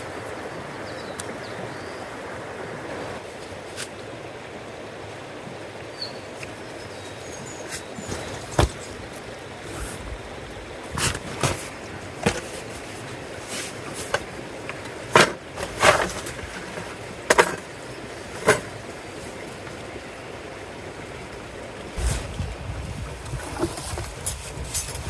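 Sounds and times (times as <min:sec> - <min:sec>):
faint hiss: 0:00.0 - 0:25.0.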